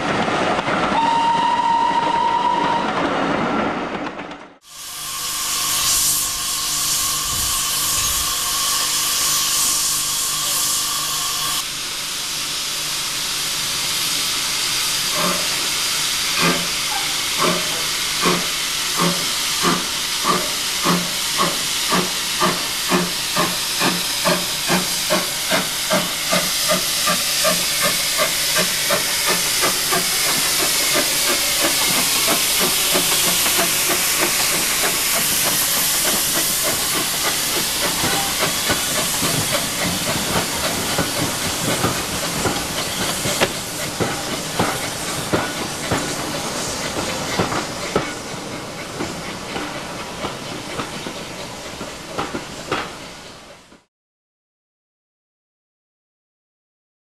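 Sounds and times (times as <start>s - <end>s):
steam hissing: 4.6s - 53.5s
steam locomotive exhaust beats: 4.6s - 53.9s.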